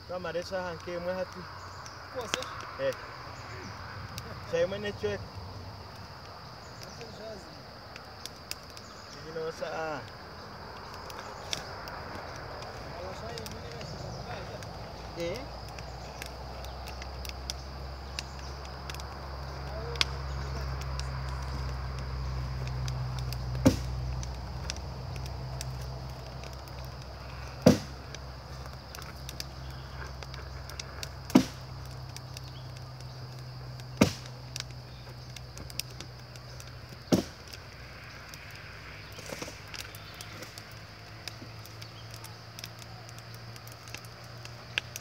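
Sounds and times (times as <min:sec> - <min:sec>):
kiln fire rumbling: 0:00.0 - 0:45.0.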